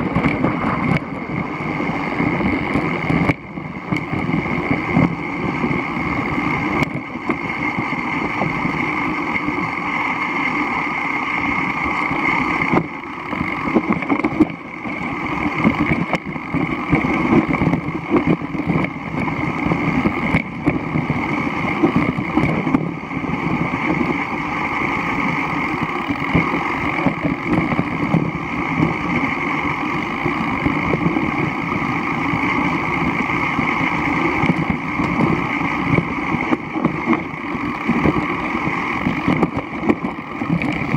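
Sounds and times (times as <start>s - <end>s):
bike knocks and rattles: 0.0s - 9.7s, 12.2s - 40.9s
tyre and wind rumble: 0.0s - 40.9s.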